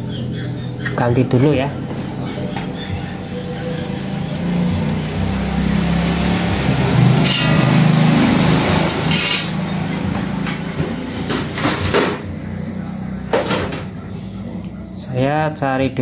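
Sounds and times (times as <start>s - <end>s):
engine running: 0.0s - 15.8s.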